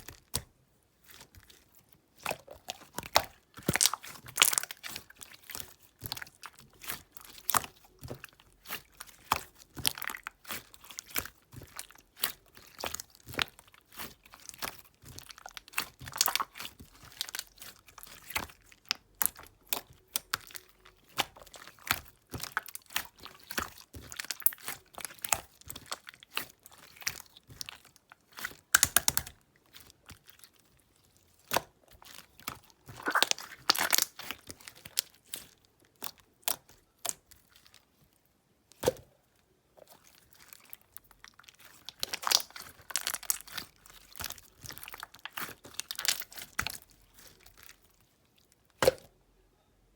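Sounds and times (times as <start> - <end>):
slime squished by hand: 0.0 - 37.9, 39.8 - 49.1.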